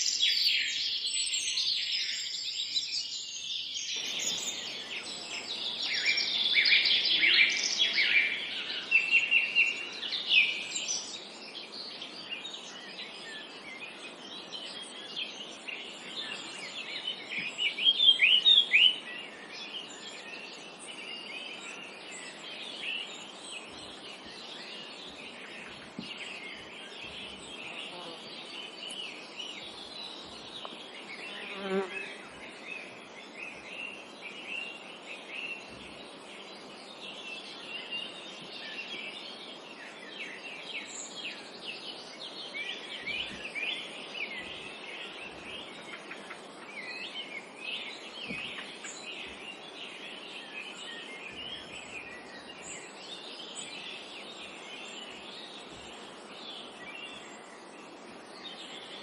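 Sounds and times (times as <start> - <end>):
faint steady hiss: 0.0 - 59.0
songbirds chirping and trilling: 0.0 - 59.0.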